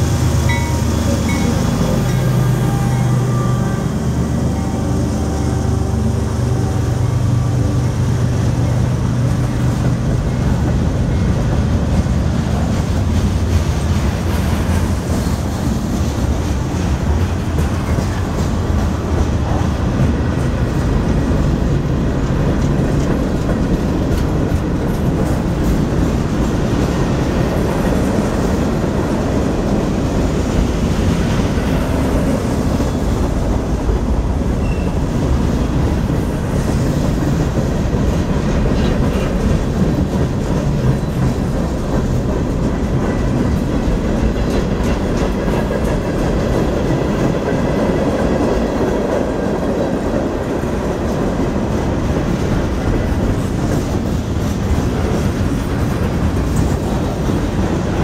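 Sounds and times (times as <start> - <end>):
clickety-clack over rail joints: 0.0 - 58.0
train wheels rumbling on rail: 0.0 - 58.0.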